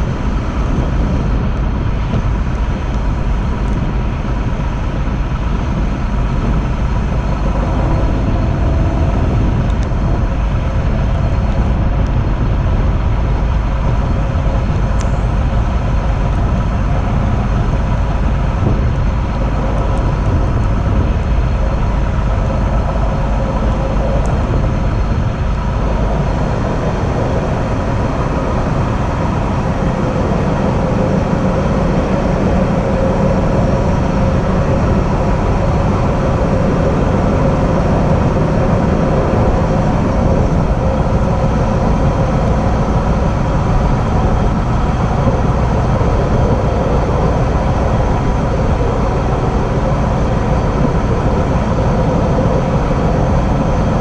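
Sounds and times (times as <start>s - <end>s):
faint steady whine: 0.0s - 54.0s
train wheels rumbling on rails: 0.0s - 54.0s.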